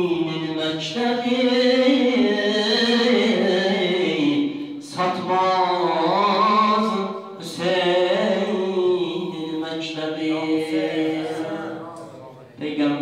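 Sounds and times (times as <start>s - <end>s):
man chanting into a microphone: 0.0s - 13.0s.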